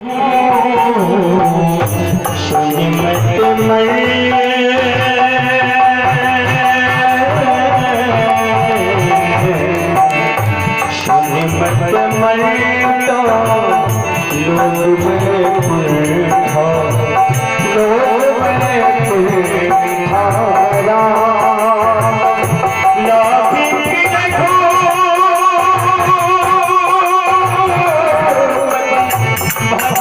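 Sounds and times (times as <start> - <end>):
hand drum beat: 0.8 - 22.7, 25.8 - 30.0.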